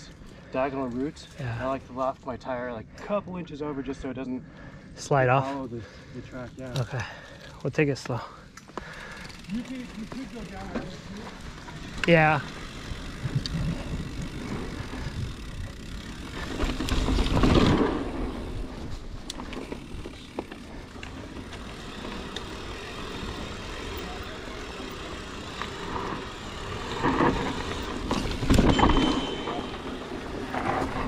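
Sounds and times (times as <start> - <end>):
bike rattling: 4.7 - 31.0
bike tyres on dirt: 5.2 - 31.0.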